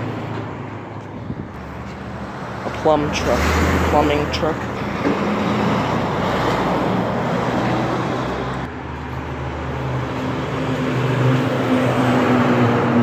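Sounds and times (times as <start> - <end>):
diesel engine humming: 0.0 - 13.0
heavy truck passing: 0.0 - 13.0
street traffic noise: 0.0 - 13.0.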